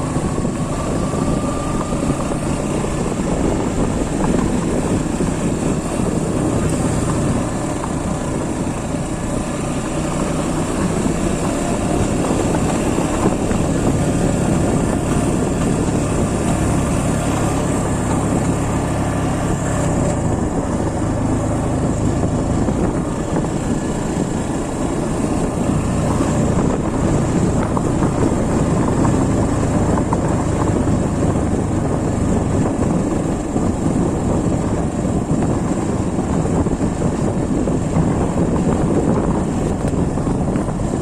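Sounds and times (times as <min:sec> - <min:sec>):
motorcycle engine running: 0:00.0 - 0:41.0
wind noise on microphone: 0:00.0 - 0:41.0.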